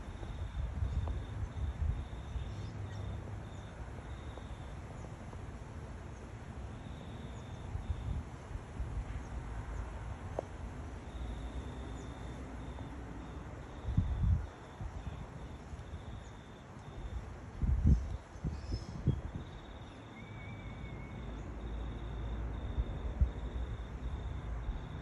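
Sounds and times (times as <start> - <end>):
insect chirping: 0.0 - 5.1, 6.7 - 8.2, 11.0 - 25.0.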